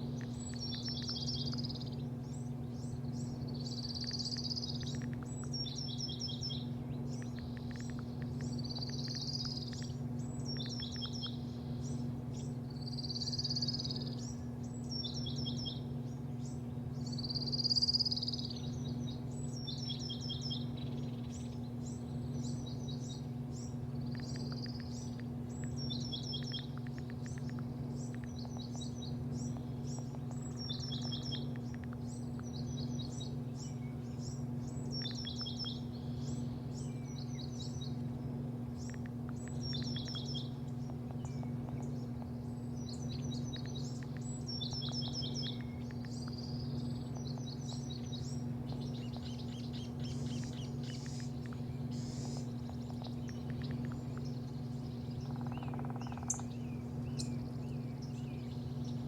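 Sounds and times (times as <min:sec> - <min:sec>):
low mechanical hum: 0:00.0 - 0:59.0
small birds chirping: 0:00.0 - 0:59.0.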